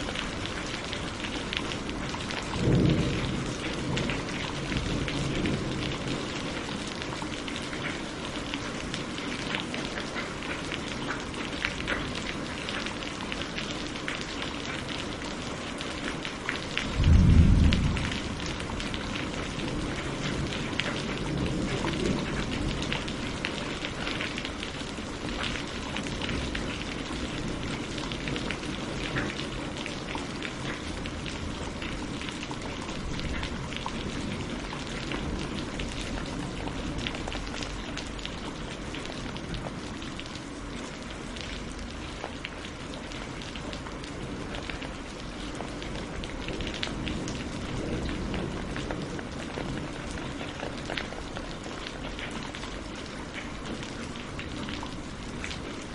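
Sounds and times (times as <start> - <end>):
rain drops striking surface: 0.0 - 55.9.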